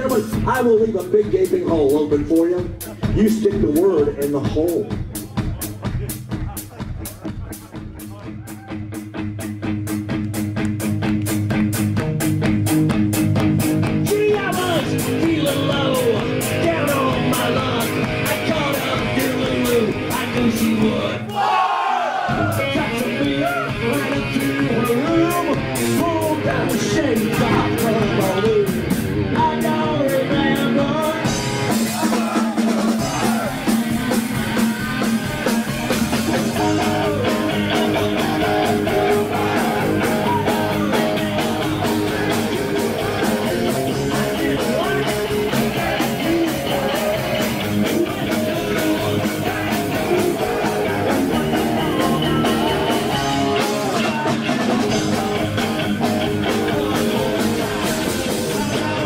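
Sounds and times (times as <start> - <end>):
drum kit: 0.0 - 21.4, 22.1 - 59.0
electric guitar: 4.4 - 21.2, 22.3 - 59.0.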